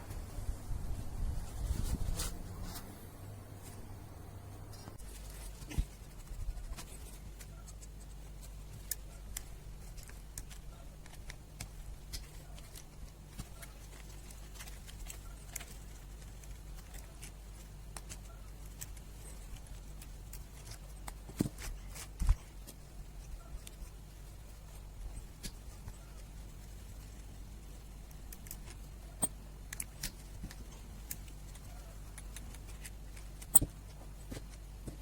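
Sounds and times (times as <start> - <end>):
steady low hum: 0.0 - 35.0
small clicks and scratches: 4.7 - 35.0.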